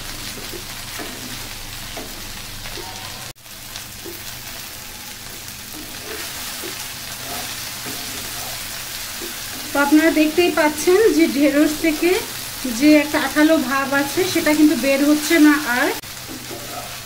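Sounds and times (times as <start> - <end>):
okra sizzling in a pan: 0.0 - 17.0.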